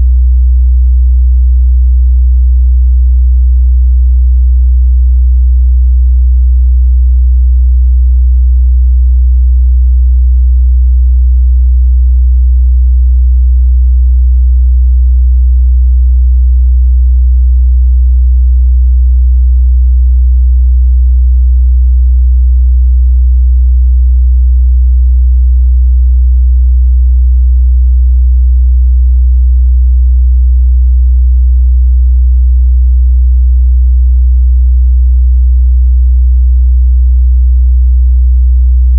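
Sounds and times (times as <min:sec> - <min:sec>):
low sine-wave test tone: 0:00.0 - 0:38.9.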